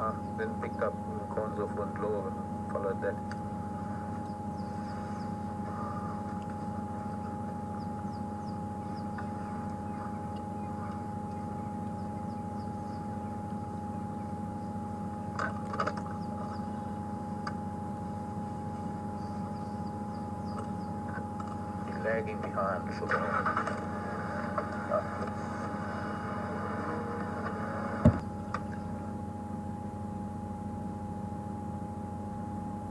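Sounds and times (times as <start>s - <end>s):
high hum: 0.0s - 32.9s
vehicle engine running: 0.0s - 32.9s.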